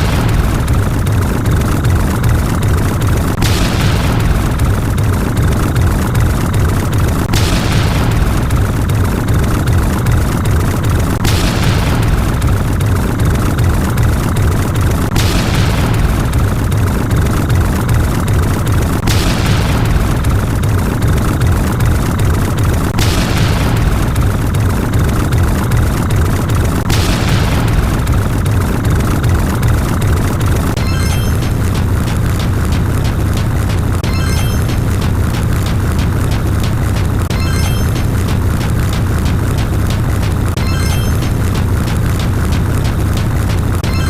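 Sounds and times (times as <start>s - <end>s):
low rumble: 0.0s - 44.0s
rushing burst: 0.0s - 44.0s.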